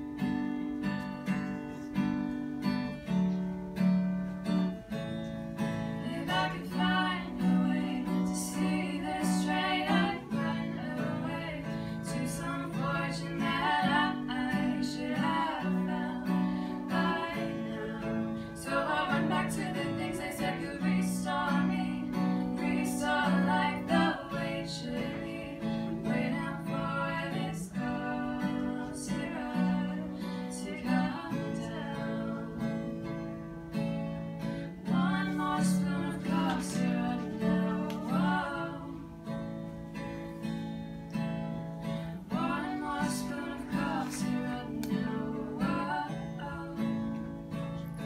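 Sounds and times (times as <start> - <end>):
strummed acoustic guitar: 0.0 - 48.0.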